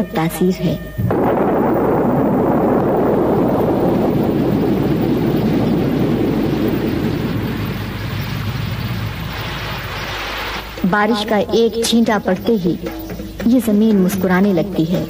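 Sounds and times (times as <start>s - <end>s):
thunder rumbling: 0.9s - 15.0s.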